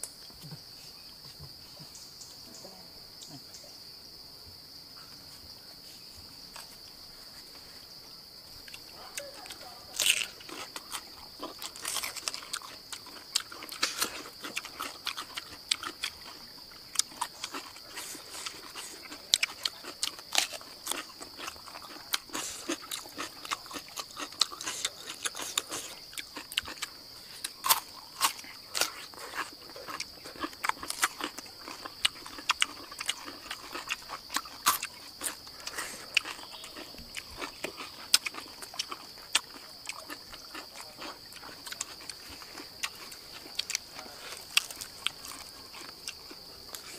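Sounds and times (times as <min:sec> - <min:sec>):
insects buzzing: 0:00.0 - 0:46.9
chewing and crunching: 0:06.5 - 0:06.9, 0:08.5 - 0:46.9.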